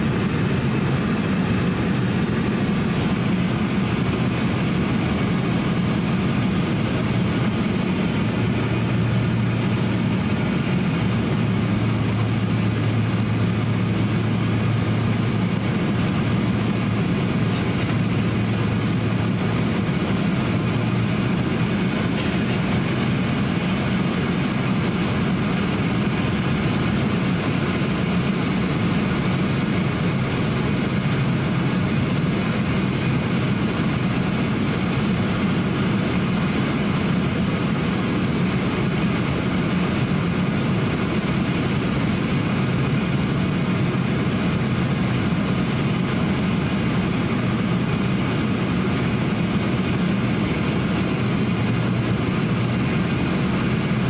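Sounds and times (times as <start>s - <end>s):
jet engines droning: 0.0s - 54.0s
low hum: 0.0s - 54.0s.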